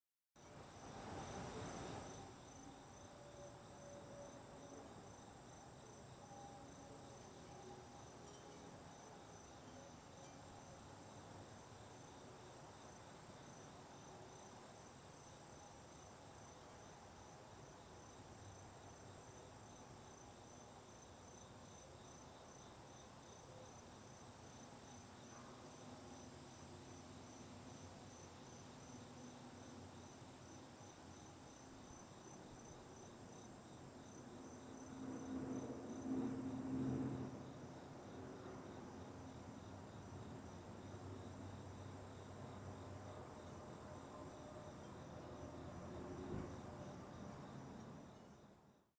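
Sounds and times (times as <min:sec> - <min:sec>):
faint insect chirping: 0:00.4 - 0:48.9.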